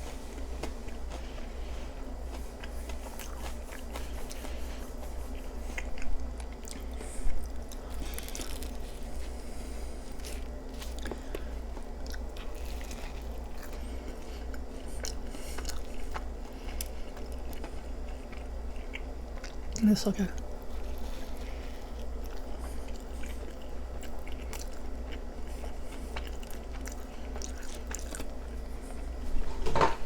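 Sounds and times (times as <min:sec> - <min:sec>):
person chewing food: 0:00.0 - 0:29.4.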